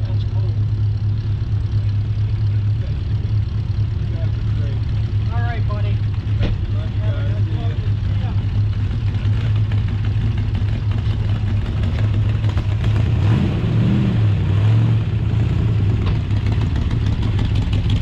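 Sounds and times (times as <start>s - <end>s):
car engine rumbling past: 0.0s - 18.0s.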